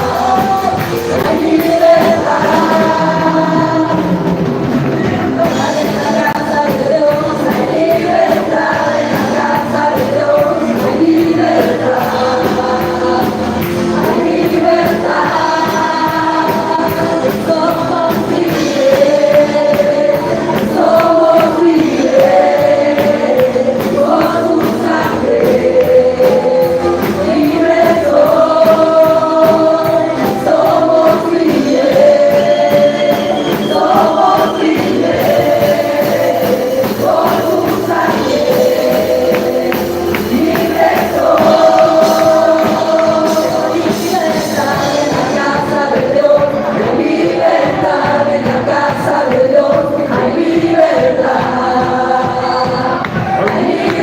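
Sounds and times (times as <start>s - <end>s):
congregation singing: 0.0s - 54.0s
instrumental accompaniment with beat: 0.0s - 54.0s.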